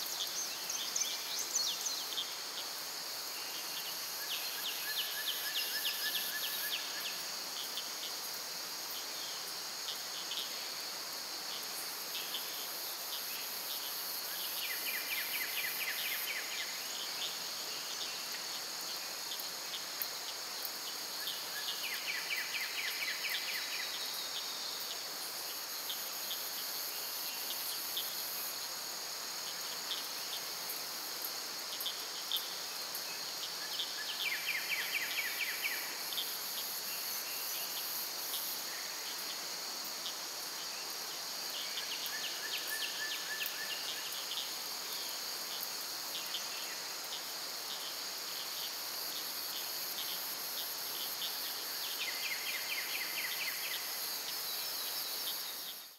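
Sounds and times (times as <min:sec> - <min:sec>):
insects droning: 0:00.0 - 0:55.9
rapid pulsing insect trills: 0:00.0 - 0:55.9.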